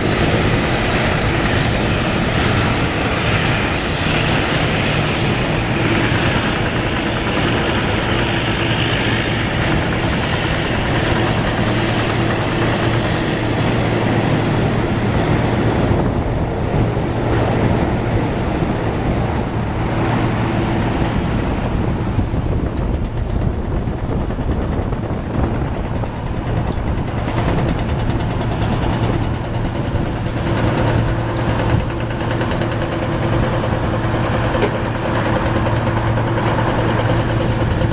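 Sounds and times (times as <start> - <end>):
jet engine rushing noise: 0.0 - 37.9.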